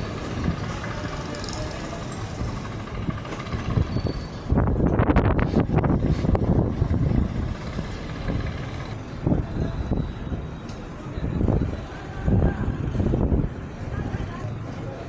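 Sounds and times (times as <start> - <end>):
heavy truck engine rumbling: 0.0 - 15.0.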